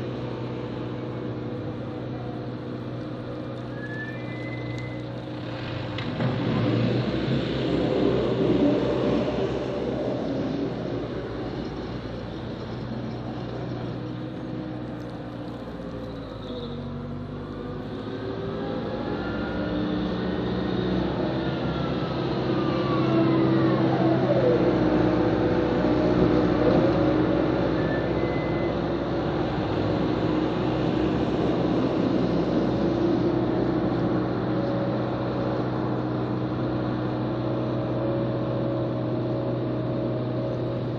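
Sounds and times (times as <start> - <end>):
snowplow engine running: 0.0 - 40.9.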